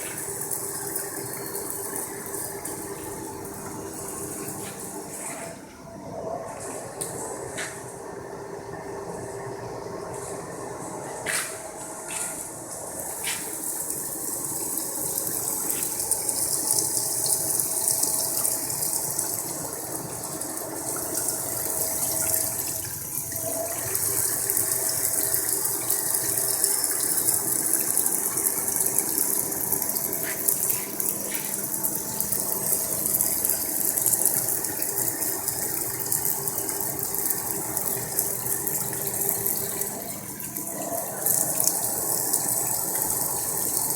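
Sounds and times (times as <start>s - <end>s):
faint machine hum: 0.0s - 43.9s.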